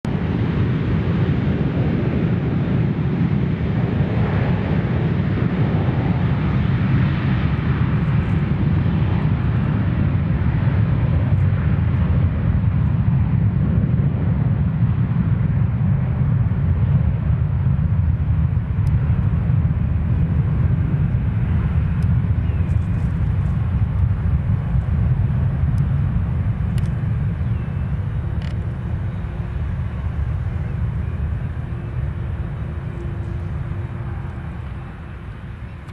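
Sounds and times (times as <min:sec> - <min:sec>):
jet engines rumbling: 0:00.1 - 0:35.9.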